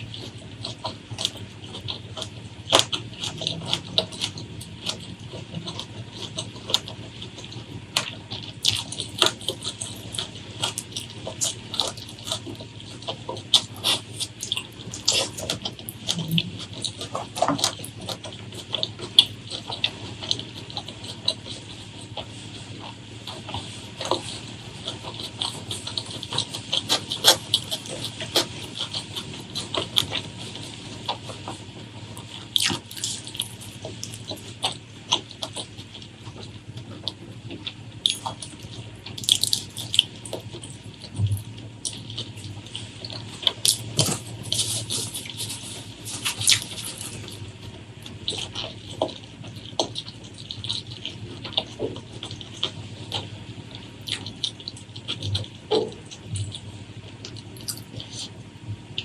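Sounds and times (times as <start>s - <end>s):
wet chewing and lip smacking: 0.0s - 59.0s.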